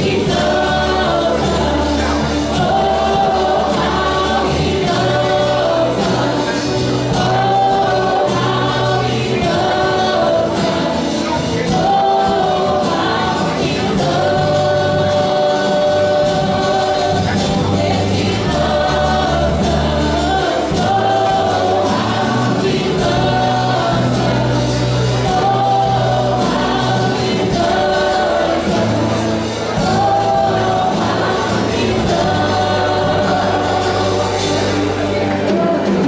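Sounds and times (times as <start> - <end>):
singers singing worship song: 0.0 - 36.0
worship band bass and keyboard: 0.0 - 36.0.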